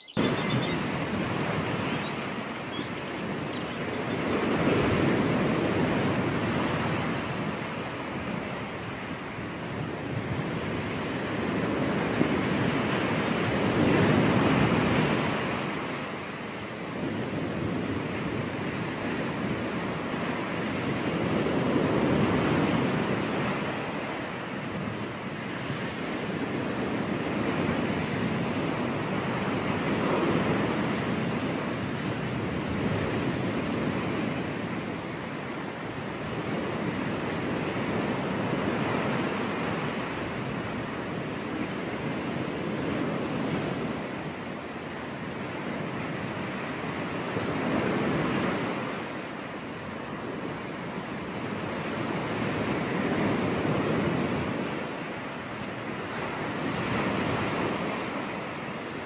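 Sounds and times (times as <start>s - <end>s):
waves breaking ashore: 0.0s - 59.0s
wind: 0.0s - 59.0s.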